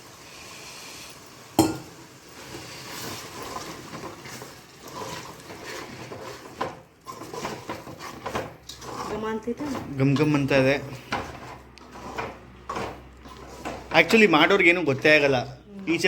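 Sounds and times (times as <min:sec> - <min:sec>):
spoon scraping and knocking pot: 0:01.6 - 0:15.5
utensils clattering in cooking pot: 0:01.6 - 0:15.6.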